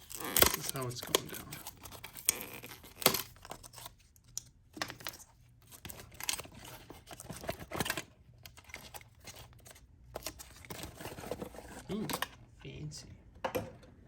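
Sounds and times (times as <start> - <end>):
packaging tearing and crinkling: 0.0 - 11.9.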